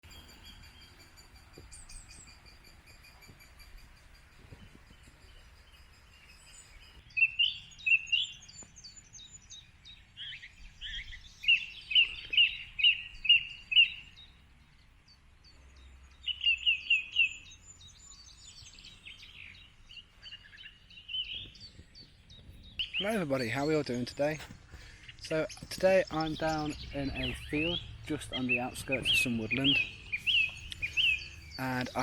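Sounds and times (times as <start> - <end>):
faint high bird calls: 0.0 - 32.0
songbirds chirping: 0.0 - 32.0.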